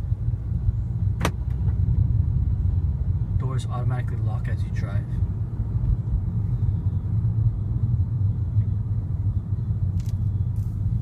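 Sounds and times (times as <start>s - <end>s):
car cabin road and engine noise: 0.0s - 11.0s.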